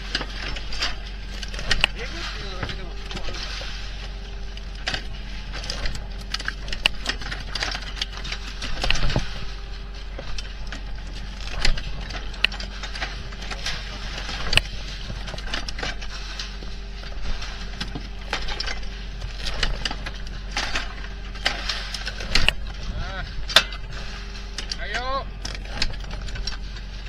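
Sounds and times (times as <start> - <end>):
engine drone: 0.0 - 27.0
metal linkages clattering: 0.0 - 27.0.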